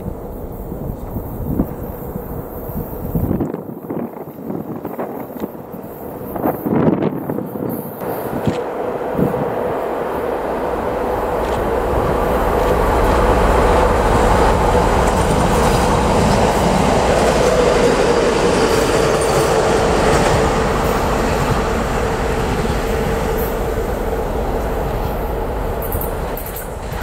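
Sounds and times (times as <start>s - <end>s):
diesel locomotive engine whine: 0.0s - 27.0s
train wheels rolling on rails: 0.0s - 27.0s.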